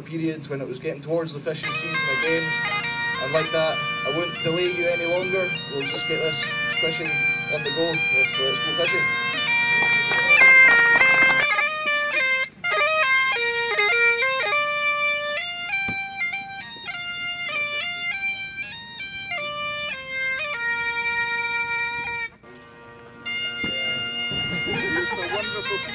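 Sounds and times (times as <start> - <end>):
bagpipes playing a tune: 0.0 - 25.9.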